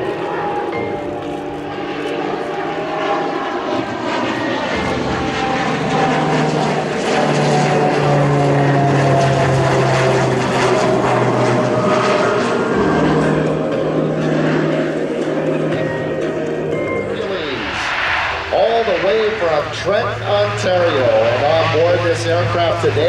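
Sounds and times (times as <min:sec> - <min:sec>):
propeller airplane engines: 0:00.0 - 0:23.0.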